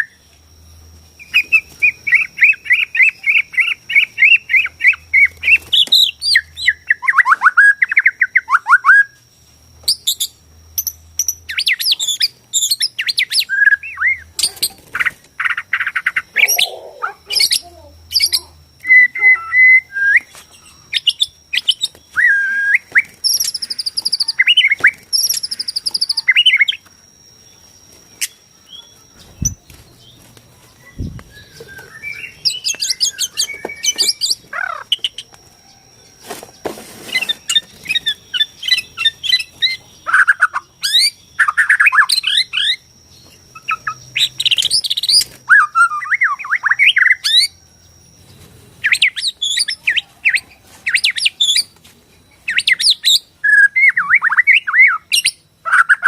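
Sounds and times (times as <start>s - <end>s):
songbird whistling: 1.2s - 9.2s, 9.8s - 56.0s.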